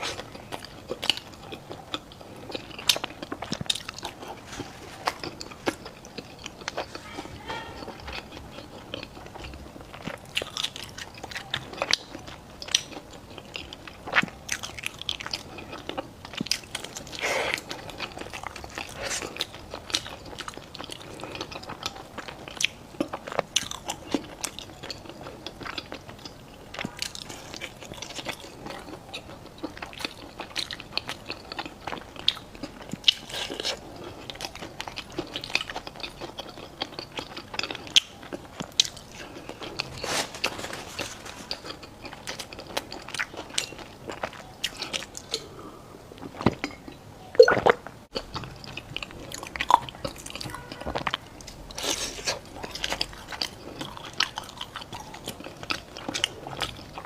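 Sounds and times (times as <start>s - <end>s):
person chewing crunchy food: 0.0s - 57.0s.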